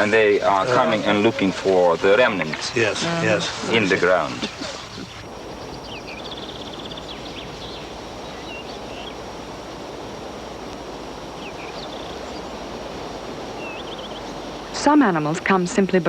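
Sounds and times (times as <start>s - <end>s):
small birds chirping: 0.0s - 9.4s, 11.3s - 15.6s
steady rushing noise: 0.0s - 16.0s.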